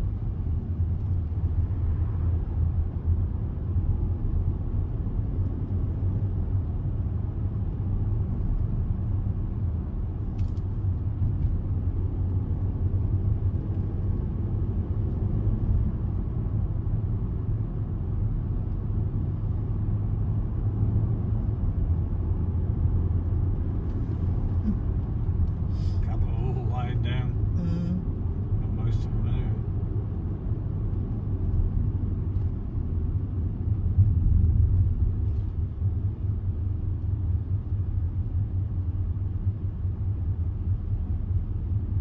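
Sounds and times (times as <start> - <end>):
car cabin road and engine rumble: 0.0 - 42.0.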